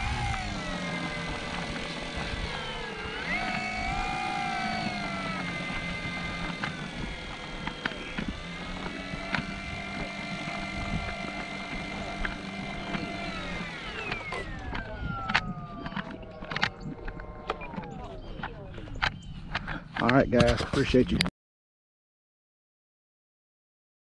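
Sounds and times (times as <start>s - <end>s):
model airplane motor whining: 0.0s - 20.2s.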